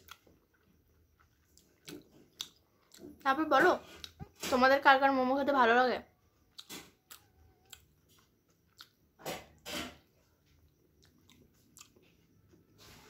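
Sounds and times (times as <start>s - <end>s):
person chewing food: 0.0s - 3.2s, 3.8s - 4.5s, 6.4s - 13.0s.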